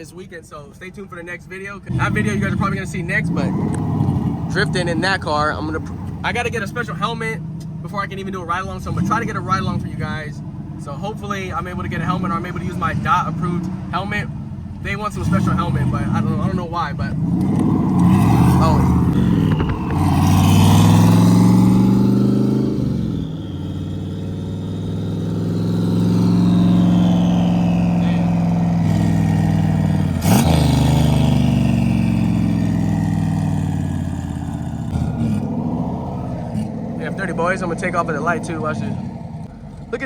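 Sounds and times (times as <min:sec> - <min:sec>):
car engine accelerating: 0:01.1 - 0:40.0.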